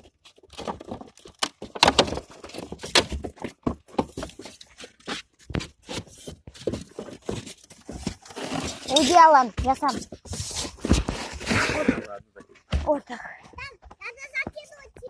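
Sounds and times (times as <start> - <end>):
cardboard rustling: 0.0 - 13.0.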